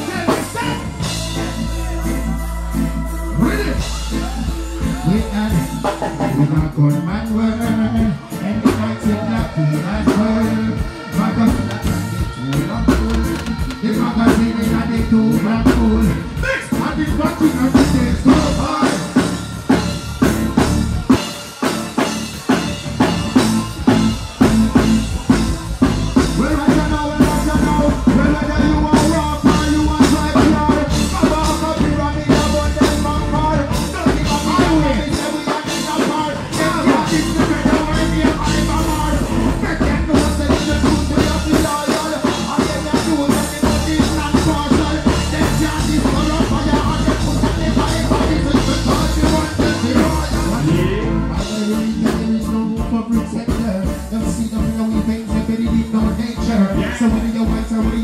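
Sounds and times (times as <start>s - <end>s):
person singing into microphone: 0.0s - 21.2s, 23.6s - 58.0s
reggae band playing: 0.0s - 58.0s.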